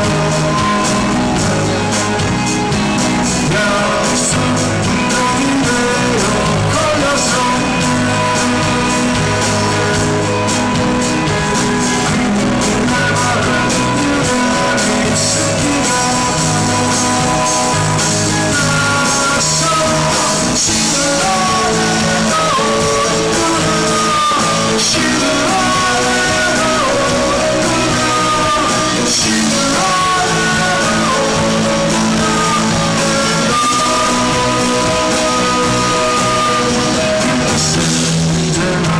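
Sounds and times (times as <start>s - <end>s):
bending guitar melody notes: 0.0s - 38.9s
live rock band playing: 0.0s - 38.9s
person singing: 0.0s - 38.9s.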